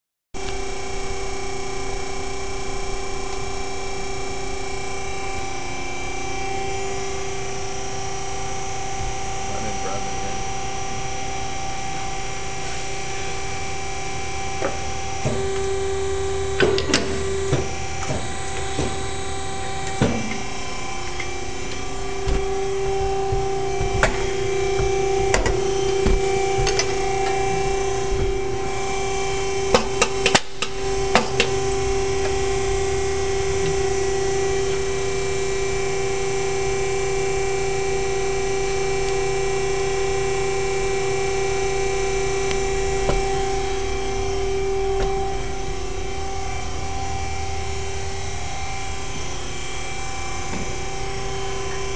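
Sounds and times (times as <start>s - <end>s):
hydraulic pump humming: 0.4s - 51.9s.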